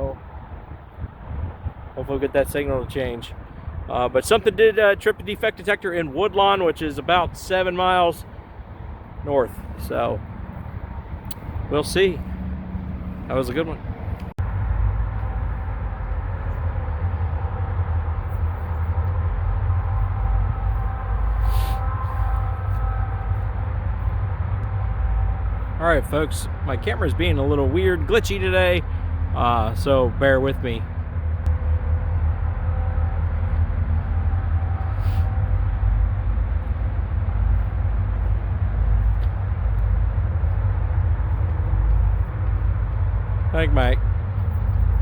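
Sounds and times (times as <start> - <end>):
faint steady tones: 0.0 - 45.0
freight train rumbling past: 0.0 - 45.0.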